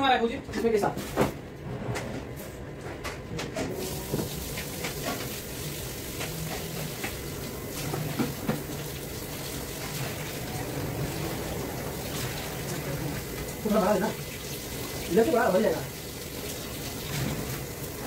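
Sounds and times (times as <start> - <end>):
background hiss and hum: 0.0 - 18.0.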